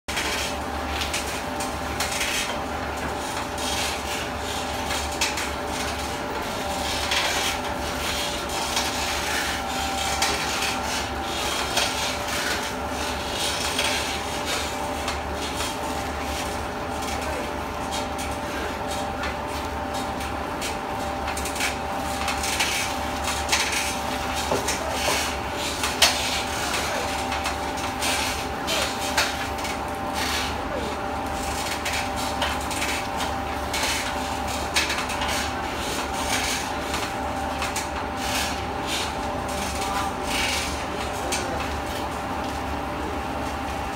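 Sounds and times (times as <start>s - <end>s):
recycling machinery humming: 0.1s - 43.9s.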